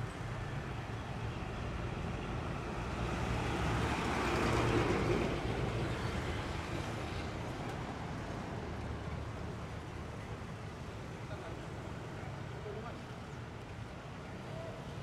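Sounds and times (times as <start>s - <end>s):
diesel rumble of bus and trucks: 0.0s - 15.0s.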